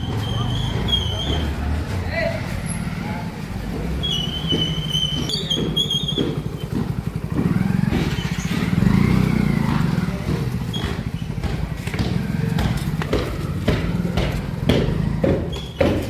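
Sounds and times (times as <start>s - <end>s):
vehicle engine passing: 0.0s - 15.7s.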